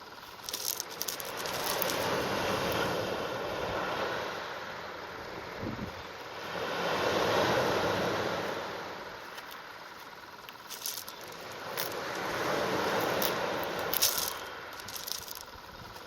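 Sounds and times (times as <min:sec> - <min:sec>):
sea waves washing ashore: 0:00.6 - 0:05.6, 0:06.2 - 0:15.5.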